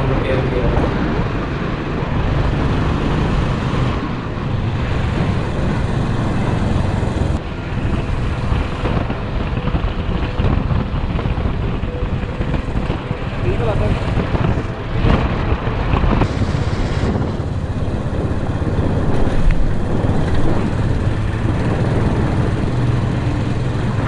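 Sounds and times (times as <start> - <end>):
motorcycle engine running: 0.0 - 24.0
wind noise on microphone: 0.0 - 24.0.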